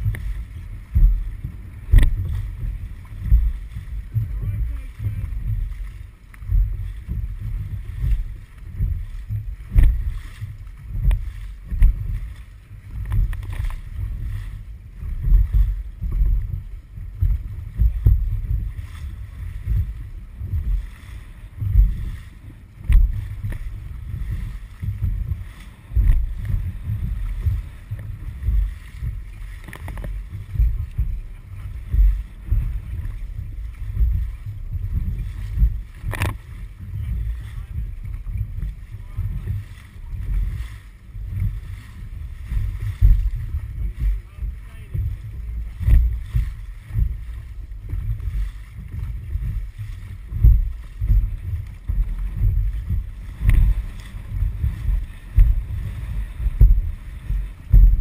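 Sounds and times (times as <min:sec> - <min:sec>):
paddles stroking water: 0:00.0 - 0:58.0
water washing along hull: 0:00.0 - 0:58.0.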